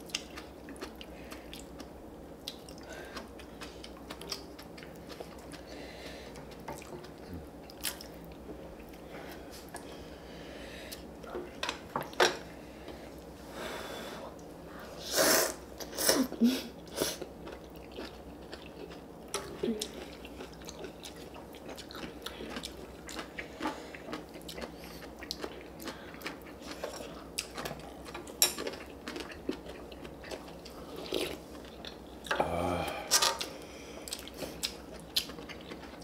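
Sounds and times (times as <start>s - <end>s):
people chewing noodles: 0.0s - 11.8s, 14.2s - 36.0s.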